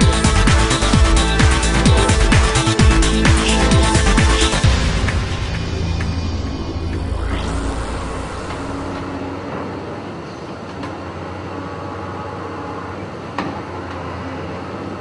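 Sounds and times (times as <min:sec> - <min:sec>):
construction machinery engine hum: 0:00.0 - 0:15.0.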